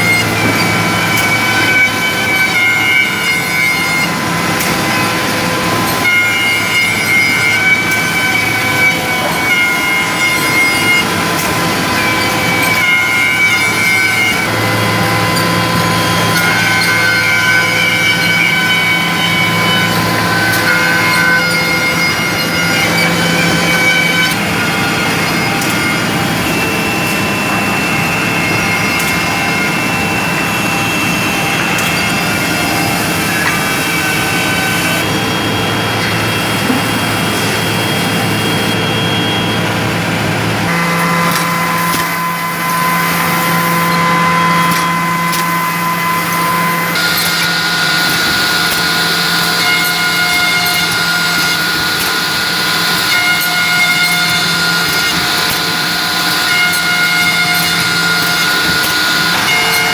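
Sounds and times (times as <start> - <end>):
machine hum with whining motors: 0.0 - 59.9.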